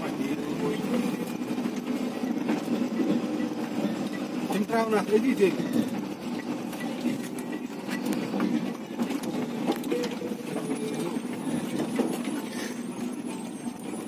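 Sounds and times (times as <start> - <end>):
truck engine hum: 0.0 - 14.0.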